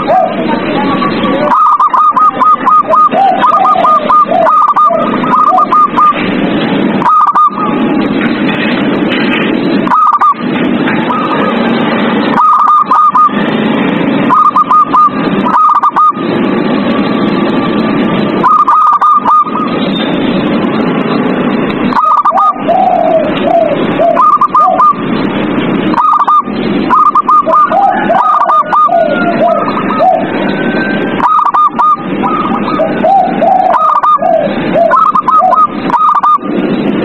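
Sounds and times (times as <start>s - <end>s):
doves cooing: 0.0s - 8.8s, 9.4s - 17.6s, 18.2s - 19.9s, 21.8s - 37.0s.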